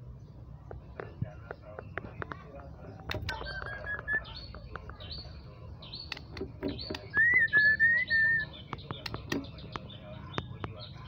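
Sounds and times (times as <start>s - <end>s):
bird chirps and clicks: 0.3s - 11.0s.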